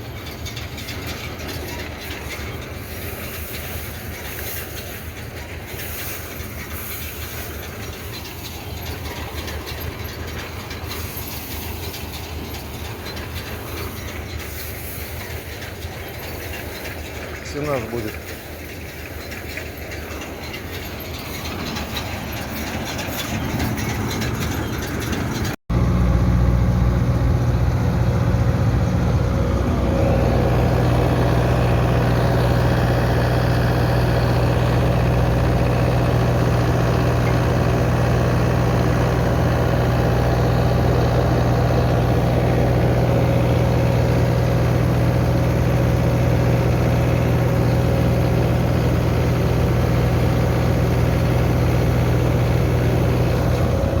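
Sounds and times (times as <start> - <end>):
rattling machinery: 0.0 - 54.0
tractor engine droning: 0.0 - 54.0.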